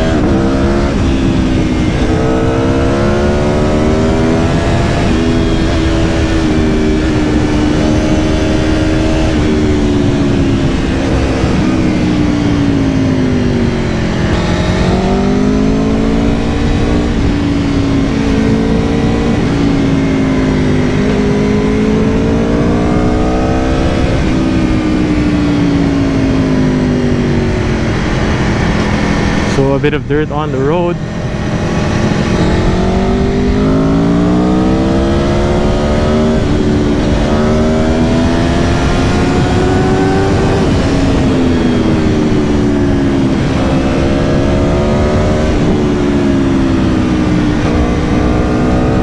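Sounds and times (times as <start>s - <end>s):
motorcycle engine revving: 0.0s - 49.0s
wind and road noise: 0.0s - 49.0s.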